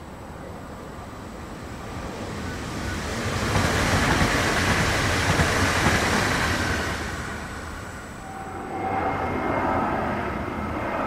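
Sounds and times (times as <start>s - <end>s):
train wheels rumbling on rails: 0.6s - 11.0s.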